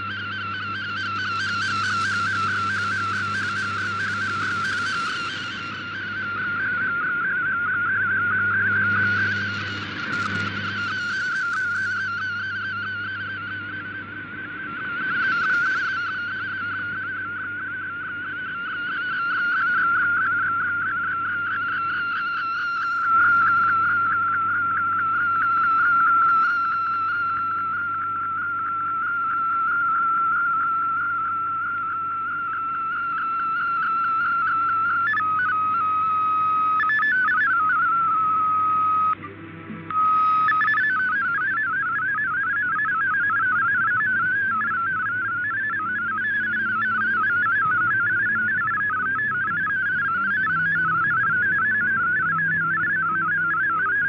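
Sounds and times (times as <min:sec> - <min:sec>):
warbling data tone: 0:00.0 - 0:54.0.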